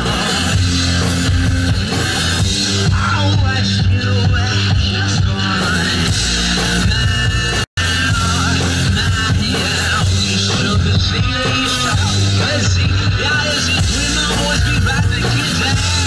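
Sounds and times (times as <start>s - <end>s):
rock music: 0.0s - 16.0s.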